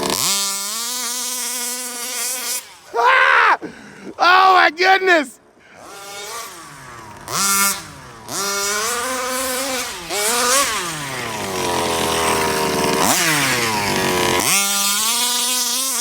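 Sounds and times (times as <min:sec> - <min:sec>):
two-stroke engine revving: 0:00.0 - 0:02.9, 0:05.6 - 0:16.0.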